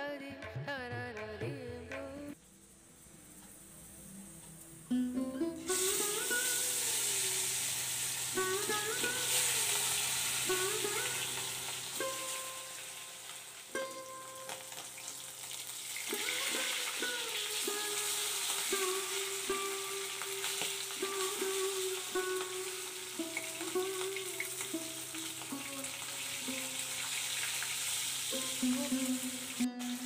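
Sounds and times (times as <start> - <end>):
background music: 0.0 - 2.4, 4.2 - 15.5, 16.1 - 27.0
fish sizzling in hot oil: 2.4 - 30.0.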